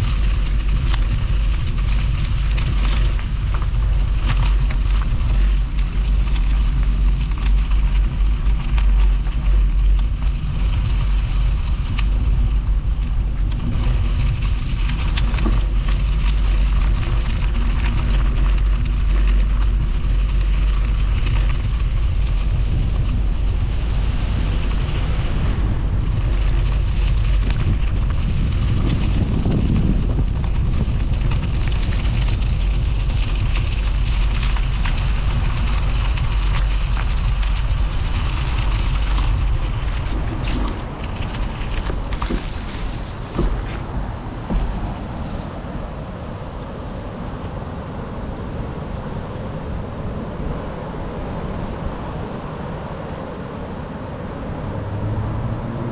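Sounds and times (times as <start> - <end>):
bicycle tyres crackling on path: 0.0 - 55.9
wind rumbling on microphone: 0.0 - 55.9.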